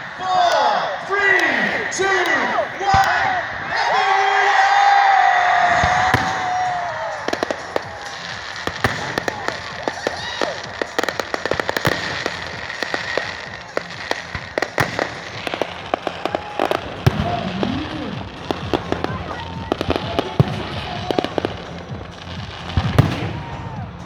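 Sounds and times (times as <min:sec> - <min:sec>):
fireworks crackling and popping: 0:00.0 - 0:24.0.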